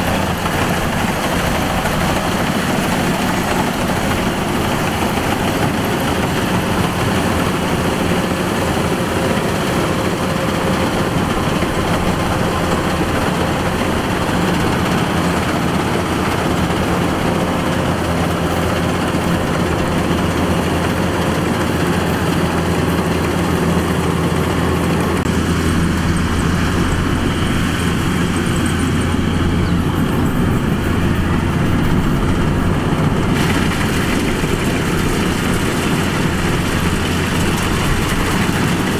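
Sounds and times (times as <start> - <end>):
harvester diesel engine running: 0.0 - 38.9.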